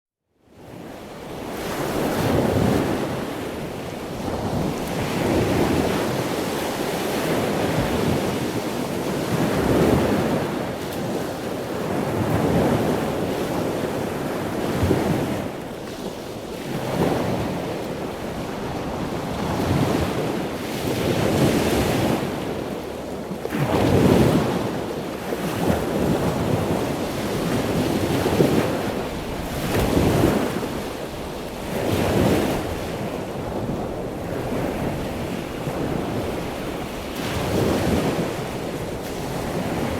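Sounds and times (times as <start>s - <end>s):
ocean waves breaking: 1.2s - 39.9s.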